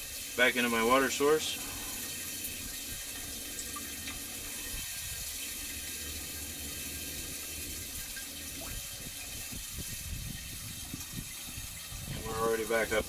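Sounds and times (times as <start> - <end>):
hot water pouring into jug: 0.0 - 13.0.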